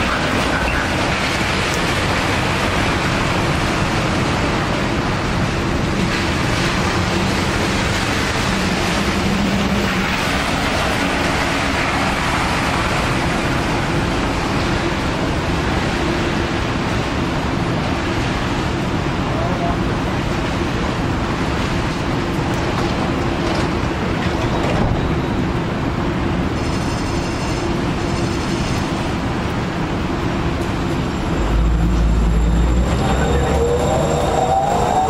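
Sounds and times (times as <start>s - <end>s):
low train hum: 0.0s - 35.0s.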